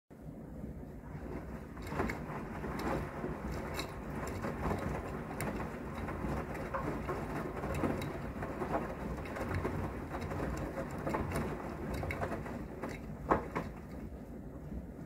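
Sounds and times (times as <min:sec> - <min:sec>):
steady low hum: 0:00.1 - 0:15.0
washing machine sloshing water: 0:01.1 - 0:14.1
dishwasher running: 0:01.1 - 0:14.2.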